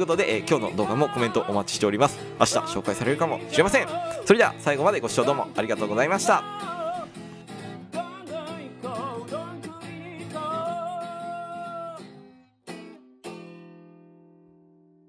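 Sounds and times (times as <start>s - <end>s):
man singing: 0.0s - 12.2s
acoustic guitar strummed chords: 0.0s - 15.0s.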